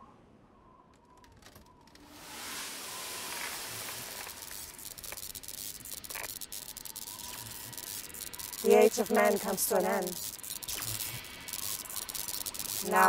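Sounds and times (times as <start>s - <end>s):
small crackles: 0.8s - 13.0s
ashes pouring hiss: 2.0s - 13.0s.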